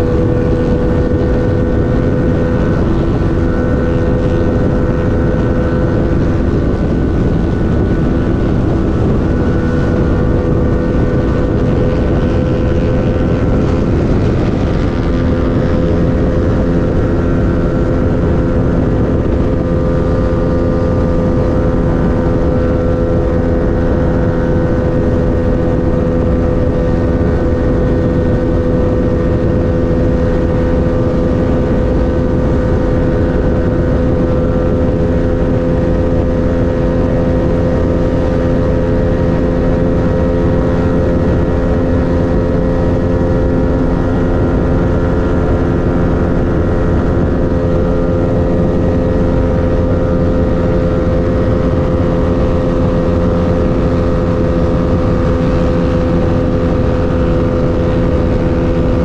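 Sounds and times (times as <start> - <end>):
motorcycle engine cruising: 0.0 - 59.0
wind rush on microphone: 0.0 - 59.0.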